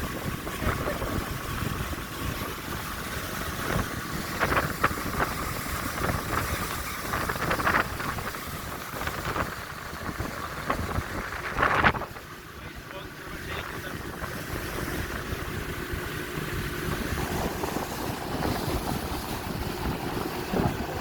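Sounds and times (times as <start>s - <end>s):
speedboat engine: 0.0s - 21.0s
wind buffeting microphone: 0.0s - 21.0s.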